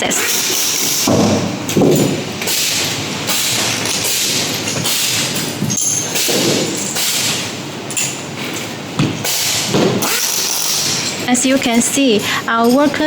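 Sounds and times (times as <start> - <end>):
metal parts thudding and knocking: 0.0 - 13.0
steady background noise: 0.0 - 13.0.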